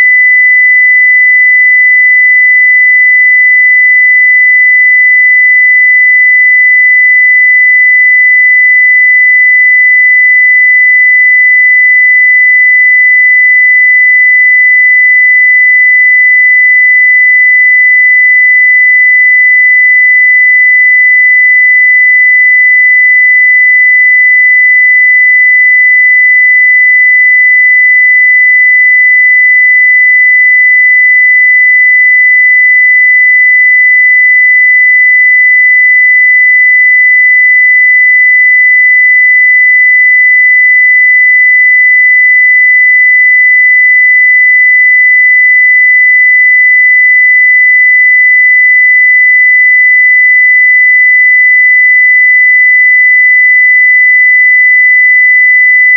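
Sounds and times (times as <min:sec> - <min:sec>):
sine-wave test tone: 0:00.0 - 0:55.9.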